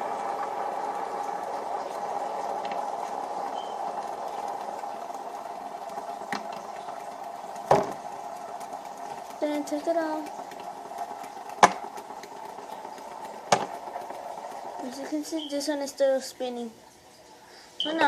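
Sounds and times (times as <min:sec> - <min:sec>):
fidget spinner whirring: 0:00.0 - 0:18.0.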